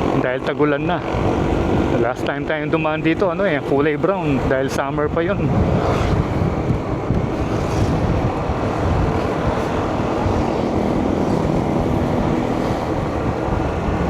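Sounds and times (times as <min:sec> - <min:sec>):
vehicle running noise: 0:00.0 - 0:14.0
wind rushing over microphone: 0:00.0 - 0:14.0.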